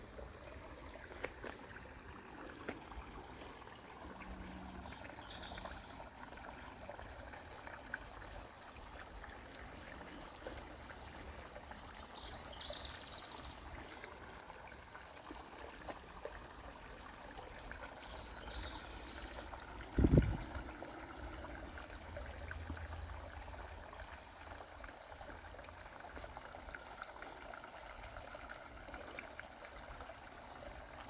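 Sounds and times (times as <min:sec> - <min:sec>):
creek trickling over rocks: 0:00.0 - 0:31.0.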